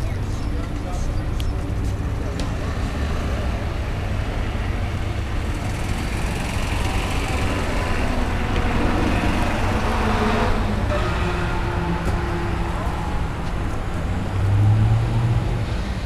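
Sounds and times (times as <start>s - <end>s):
distant vehicles: 0.0s - 16.0s.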